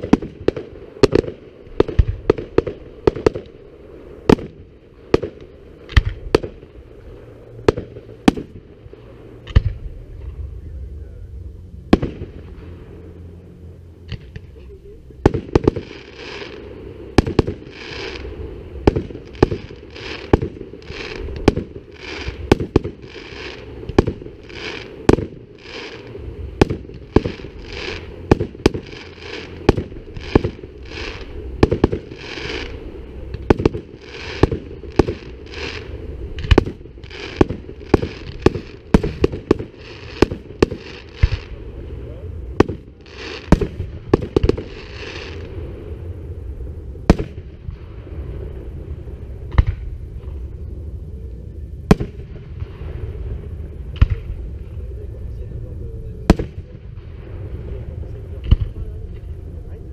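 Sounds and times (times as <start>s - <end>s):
firework bangs: 0.0s - 10.5s, 11.8s - 13.2s, 14.0s - 50.5s, 51.8s - 54.9s, 56.1s - 59.9s
hissing crackle of fireworks: 0.0s - 11.0s, 11.8s - 59.9s.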